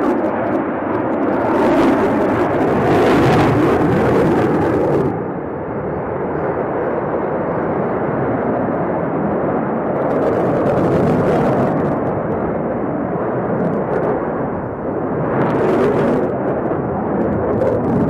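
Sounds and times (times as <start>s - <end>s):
fighter jet engines: 0.0s - 18.0s.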